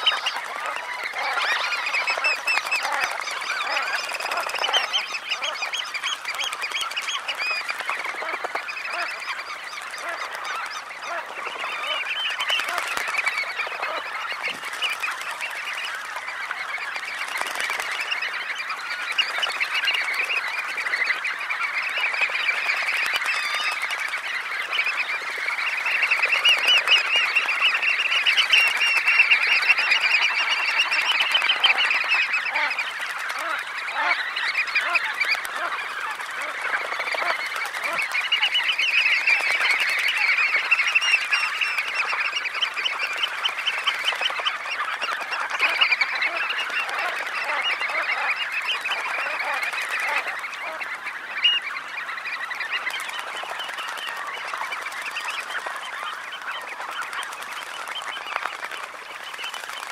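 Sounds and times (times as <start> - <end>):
flock of birds calling: 0.0 - 59.9.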